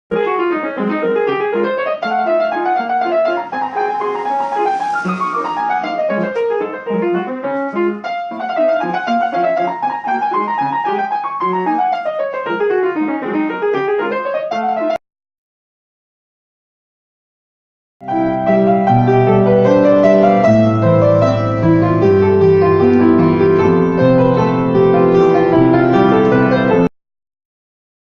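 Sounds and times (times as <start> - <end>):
piano playing flowing runs: 0.1 - 15.0, 18.0 - 26.9.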